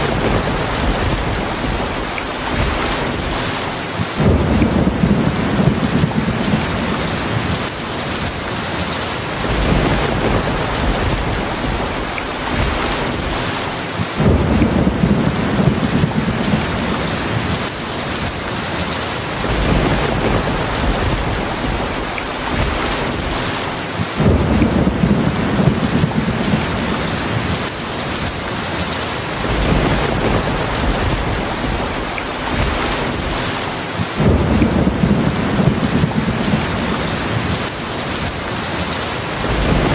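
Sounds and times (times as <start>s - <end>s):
low thunder rumbling: 0.0s - 8.6s, 9.2s - 18.3s, 19.2s - 28.4s, 29.2s - 38.4s, 39.2s - 39.9s
heavy rain: 0.0s - 39.9s.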